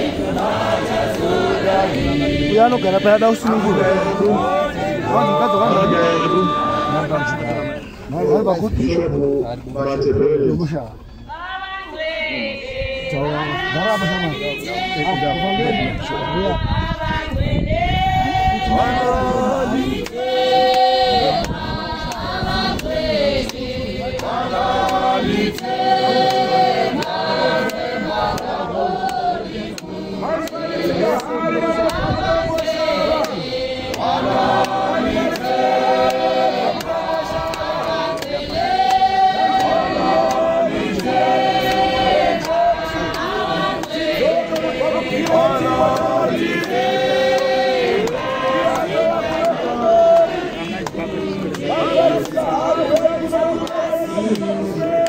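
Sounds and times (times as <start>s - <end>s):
congregation singing a hymn: 0.0s - 9.4s, 11.1s - 55.0s.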